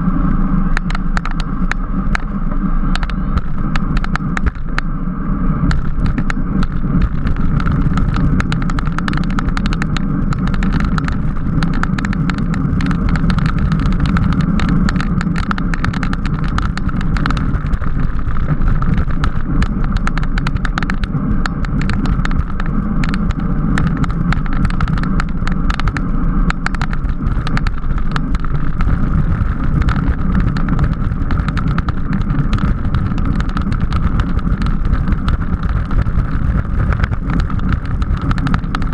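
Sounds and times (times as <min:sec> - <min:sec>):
road rumble: 0:00.0 - 0:38.9
wind rush: 0:00.0 - 0:38.9
small clicks and rattles: 0:00.7 - 0:04.9, 0:05.6 - 0:38.9.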